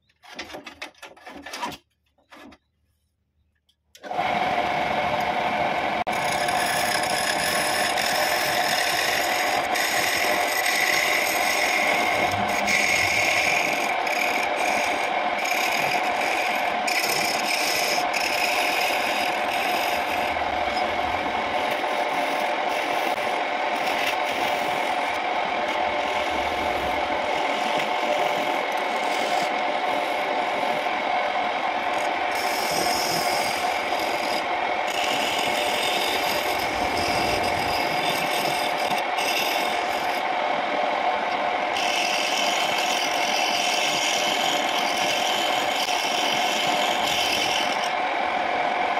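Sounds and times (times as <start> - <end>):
wood lathe motor whine: 4.0 - 48.9
chisel scraping spinning wood: 6.0 - 40.6, 41.3 - 48.2.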